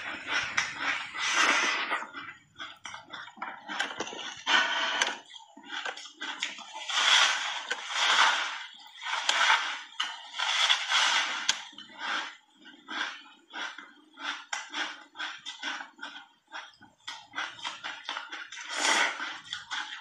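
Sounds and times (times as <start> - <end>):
person crunching ice: 0.0 - 20.0.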